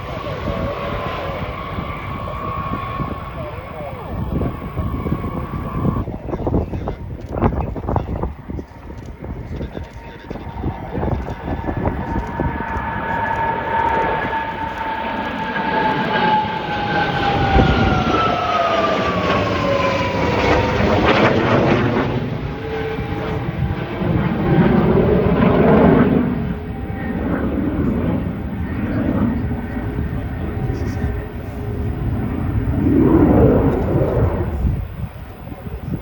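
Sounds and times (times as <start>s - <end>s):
aircraft flying past: 0.0s - 36.0s.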